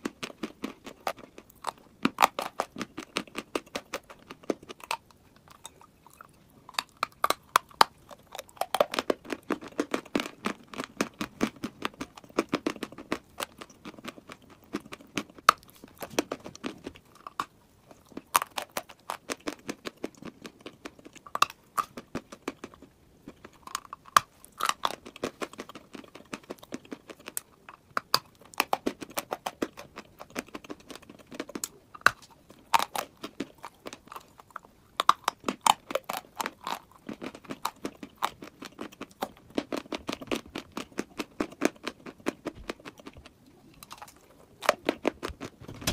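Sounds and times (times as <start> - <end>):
person chewing dry chalk: 0.0 - 45.7.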